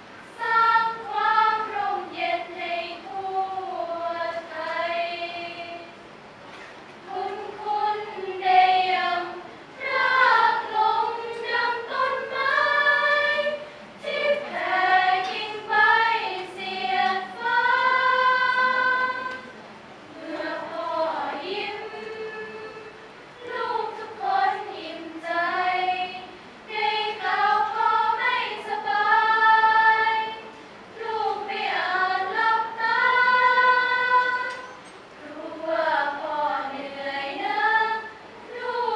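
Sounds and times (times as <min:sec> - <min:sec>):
women's choir singing a cappella: 0:00.0 - 0:06.1, 0:07.0 - 0:38.9.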